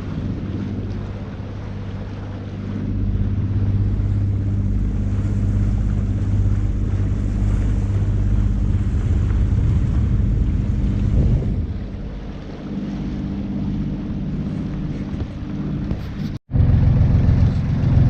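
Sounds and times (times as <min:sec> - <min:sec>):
boat engine running: 0:00.0 - 0:18.0
water rushing: 0:00.0 - 0:18.0
wind: 0:00.0 - 0:18.0.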